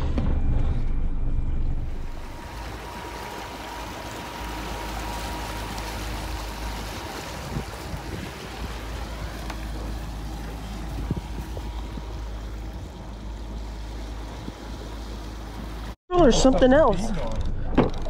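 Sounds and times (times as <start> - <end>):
motorboat engine rumble: 0.0 - 18.0
water splashing along a boat hull: 1.6 - 18.0.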